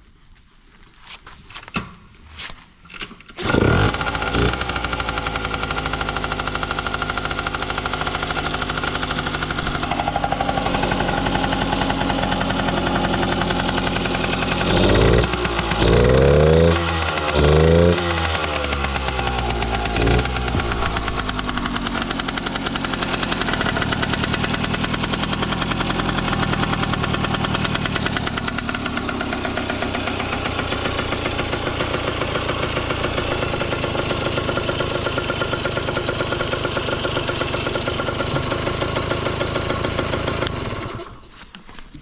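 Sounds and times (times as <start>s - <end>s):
engine revving: 3.4s - 41.1s
engine knocks: 3.4s - 41.2s
two-stroke engine idling: 3.4s - 41.3s.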